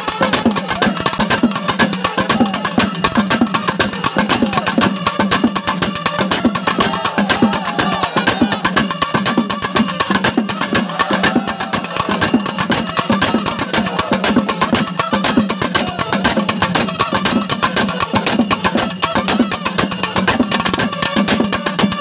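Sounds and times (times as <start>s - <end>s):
fast drum strokes: 0.0s - 22.0s.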